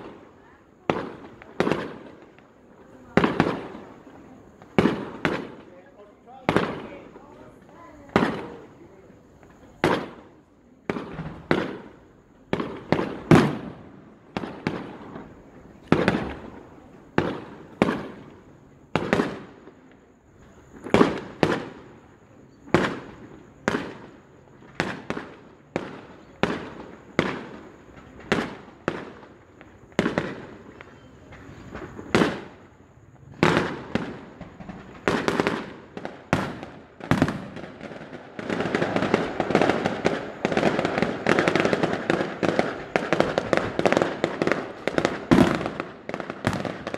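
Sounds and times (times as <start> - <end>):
fireworks bursting with echo: 0.0 - 46.9.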